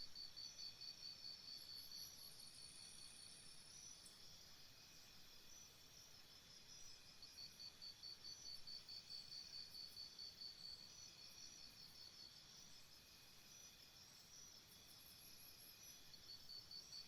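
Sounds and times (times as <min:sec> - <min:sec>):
faint cricket chirping: 0:00.0 - 0:17.0.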